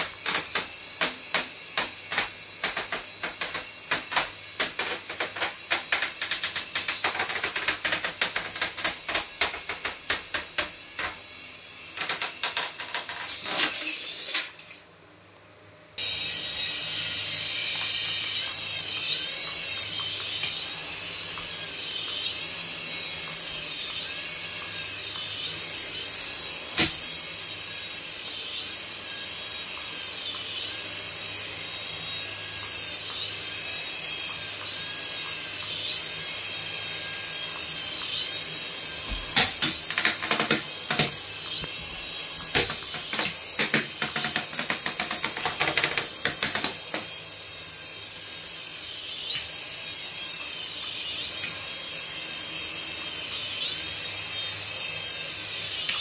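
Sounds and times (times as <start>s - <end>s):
tiny electric motors whirring: 0.0s - 14.8s, 16.0s - 56.0s.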